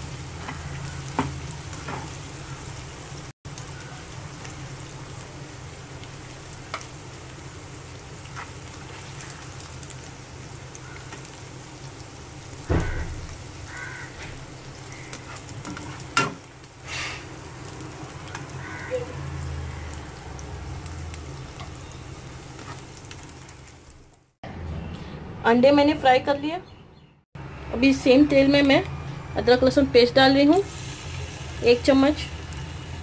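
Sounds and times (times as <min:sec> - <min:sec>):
eggs sizzling in oil: 0:00.0 - 0:24.4, 0:27.8 - 0:33.0.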